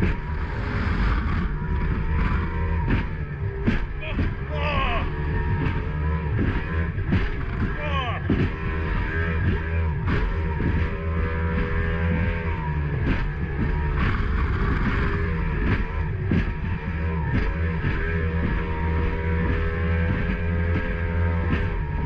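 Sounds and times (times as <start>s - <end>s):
hull slapping over waves: 0.0s - 22.0s
outboard motor running at high speed: 0.0s - 22.0s.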